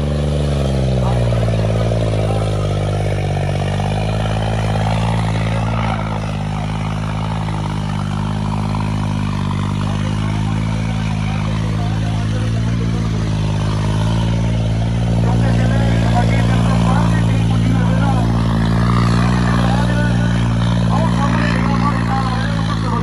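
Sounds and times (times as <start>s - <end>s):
tractor diesel engine at full throttle: 0.0s - 23.0s.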